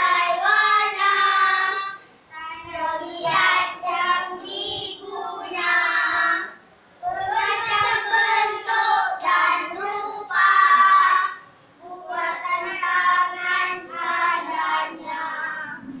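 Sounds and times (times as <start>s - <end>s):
boys singing unaccompanied: 0.0s - 16.0s.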